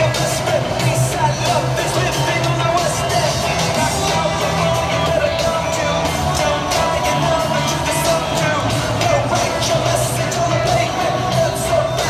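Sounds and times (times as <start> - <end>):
loud music with bass and beat: 0.0 - 12.0.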